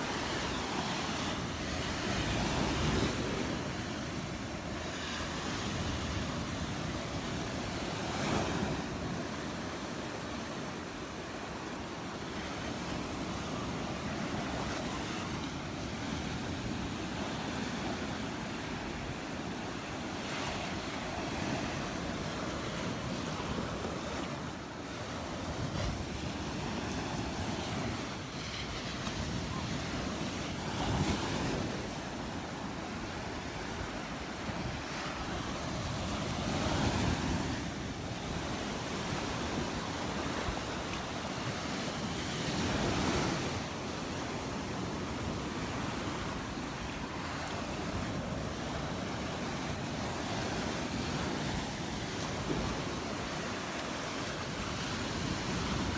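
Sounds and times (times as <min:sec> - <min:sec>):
surf washing onto beach: 0:00.0 - 0:55.9.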